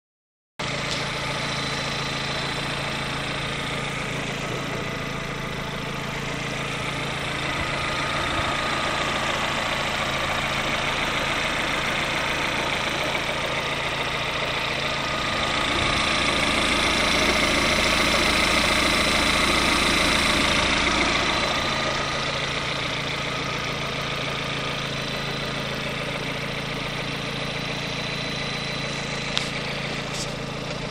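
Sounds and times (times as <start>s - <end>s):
car engine idling: 0.6s - 30.9s.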